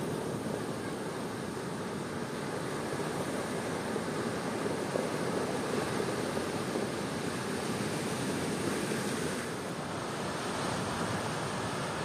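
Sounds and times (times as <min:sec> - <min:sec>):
ocean waves breaking on shore: 0:00.0 - 0:12.0.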